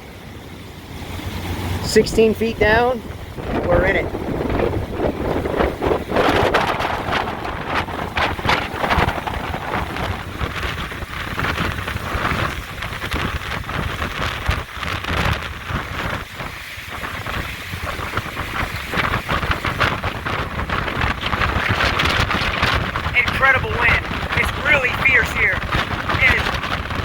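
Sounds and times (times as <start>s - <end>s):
hurricane wind buffeting microphone: 0.0s - 27.0s.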